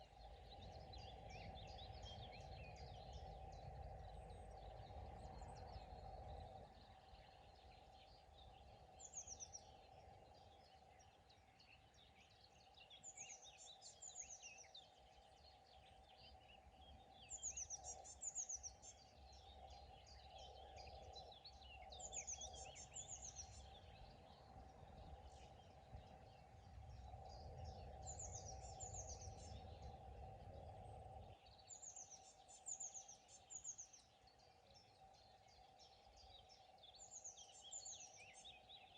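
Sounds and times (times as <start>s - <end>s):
birds chirping softly: 0.0s - 38.9s
faint steady hum: 0.0s - 38.9s.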